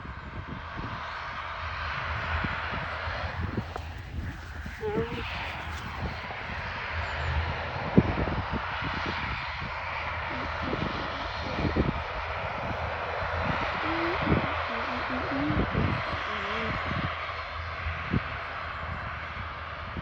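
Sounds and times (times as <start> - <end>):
turboprop engines running: 0.0 - 20.0.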